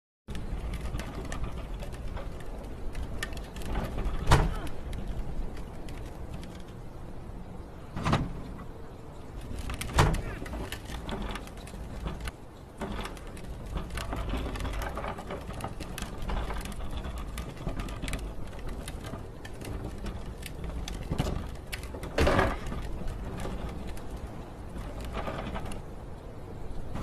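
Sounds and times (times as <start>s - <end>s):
loose things rattling and clicking: 0.3s - 27.0s
loud clatter: 0.3s - 27.0s
wind rumbling on microphone: 0.3s - 27.0s.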